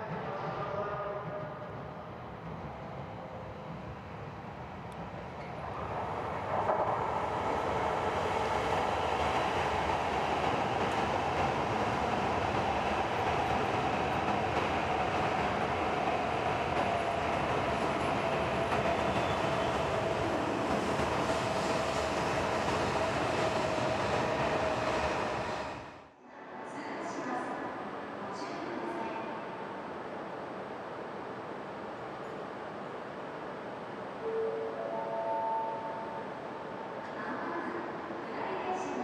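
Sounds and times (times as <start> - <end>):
high-speed train running noise: 0.0 - 39.0.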